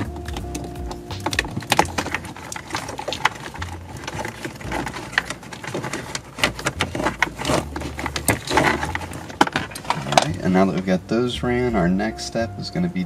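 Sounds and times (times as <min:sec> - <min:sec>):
plastic connectors clicking: 0:00.0 - 0:10.8.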